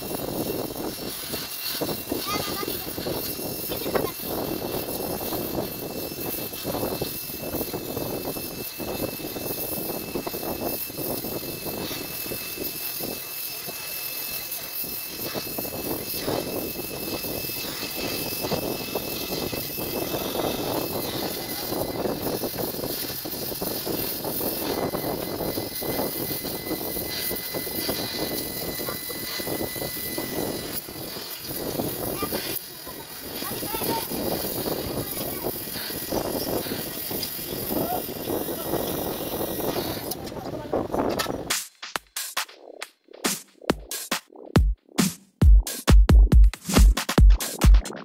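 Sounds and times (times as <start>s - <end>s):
welding torch flame hissing: 0.0s - 45.0s.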